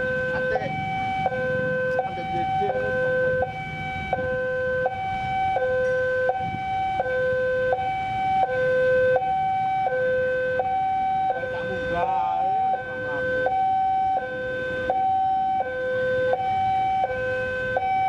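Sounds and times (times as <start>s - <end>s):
two-tone railway warning alarm: 0.0s - 18.0s.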